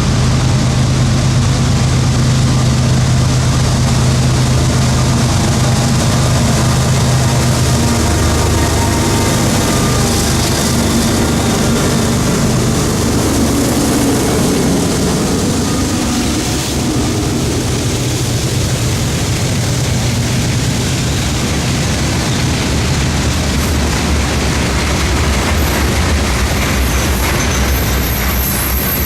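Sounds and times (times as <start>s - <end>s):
diesel locomotives running: 0.0s - 29.0s
freight train rumble: 0.0s - 29.0s.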